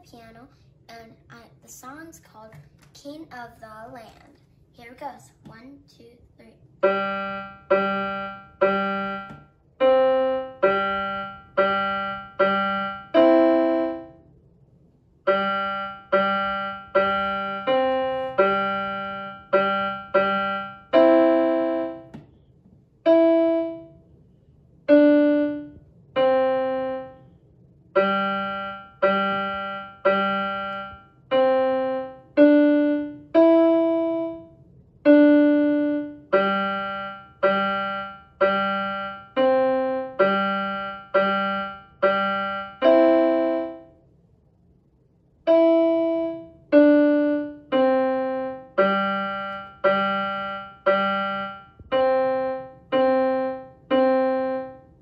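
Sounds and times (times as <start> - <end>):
slow electronic piano notes: 6.8 - 14.3, 15.2 - 22.4, 23.0 - 24.0, 24.8 - 44.0, 45.4 - 55.0.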